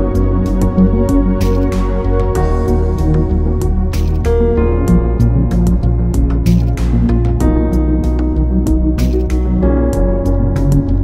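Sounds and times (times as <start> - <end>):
music with deep bass: 0.0 - 11.0.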